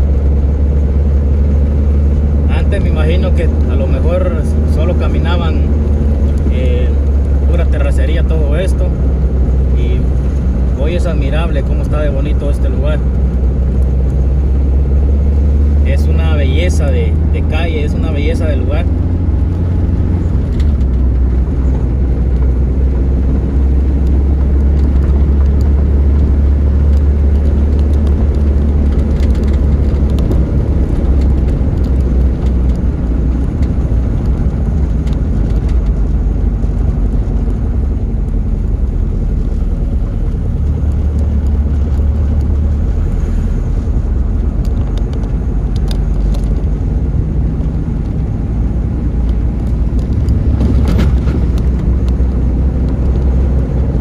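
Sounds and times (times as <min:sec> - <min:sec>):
car driving on concrete road: 0:00.0 - 0:54.0.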